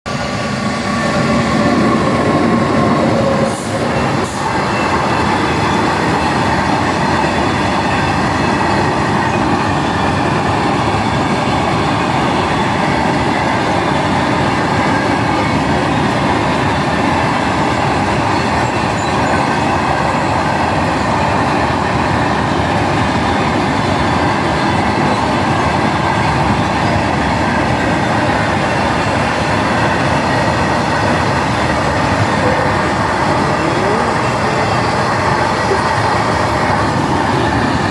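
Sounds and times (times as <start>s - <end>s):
diesel train rumble and hiss: 0.1s - 37.9s
engine drone: 0.1s - 37.9s.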